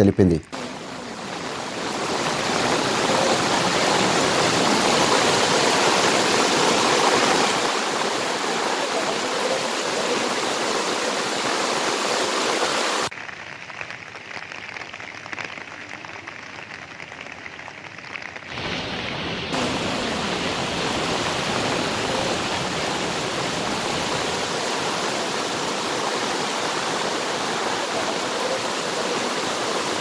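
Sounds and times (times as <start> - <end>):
floodwater rushing: 0.5 - 30.0.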